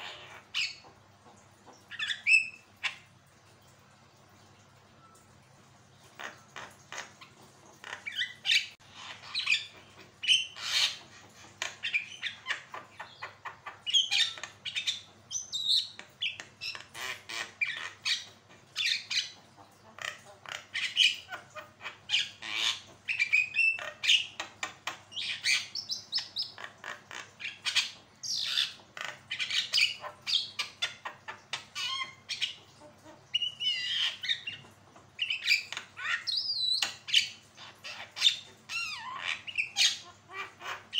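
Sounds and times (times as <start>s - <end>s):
bird squawking and chattering: 0.0s - 3.1s, 6.0s - 40.9s.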